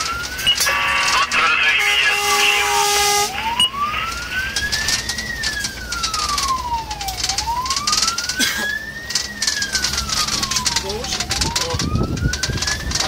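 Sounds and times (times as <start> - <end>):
fire engine siren wailing: 0.0 - 13.0
road noise: 0.0 - 13.0
truck engine: 0.0 - 13.0.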